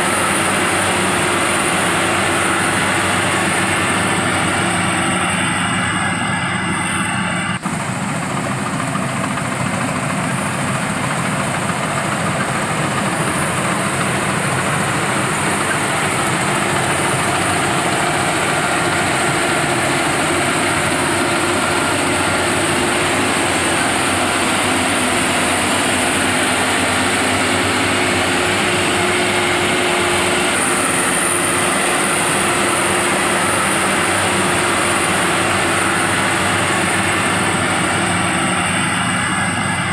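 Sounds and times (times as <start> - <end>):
harvesting machine engine running: 0.0 - 39.9.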